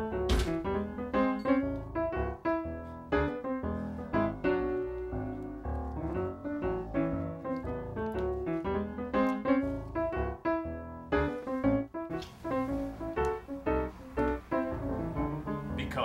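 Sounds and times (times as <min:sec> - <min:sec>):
background piano music: 0:00.0 - 0:16.0.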